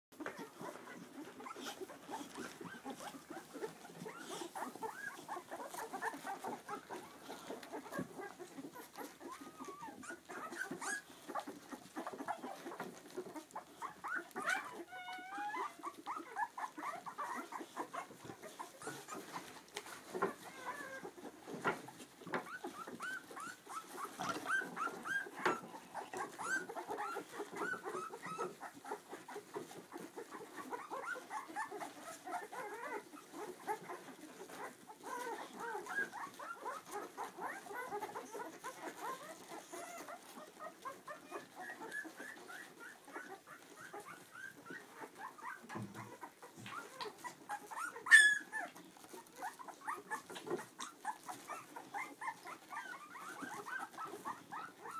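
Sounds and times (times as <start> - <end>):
puppies squeaking and whimpering: 0.2 - 54.9.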